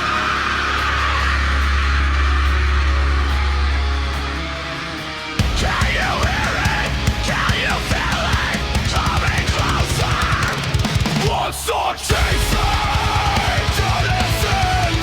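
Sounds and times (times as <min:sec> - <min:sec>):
heavy metal music with fast drumming: 0:00.0 - 0:15.0.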